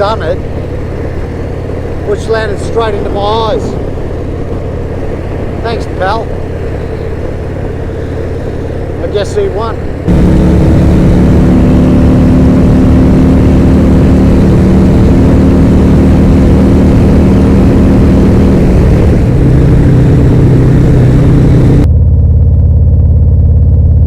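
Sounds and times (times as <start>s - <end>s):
motorcycle engine and exhaust: 0.0s - 24.0s.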